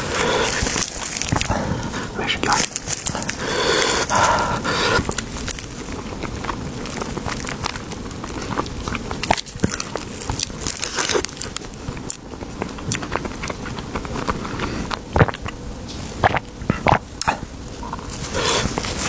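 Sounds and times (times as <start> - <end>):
crackling snaps: 0.0 - 19.0
crunchy bites and chewing: 0.0 - 19.0.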